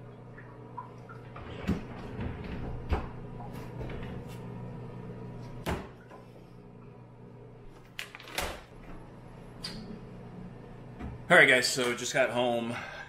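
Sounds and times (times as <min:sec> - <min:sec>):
low kitchen hum: 0:00.0 - 0:13.0.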